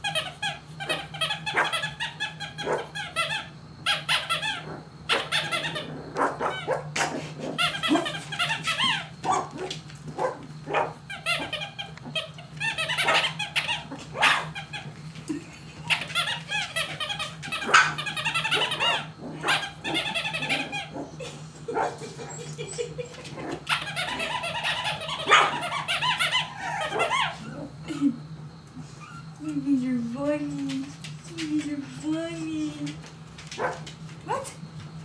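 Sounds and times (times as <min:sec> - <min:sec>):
puppies yipping and whining: 0:00.0 - 0:28.1, 0:28.8 - 0:29.5, 0:33.5 - 0:34.6
steady low hum: 0:00.0 - 0:35.0.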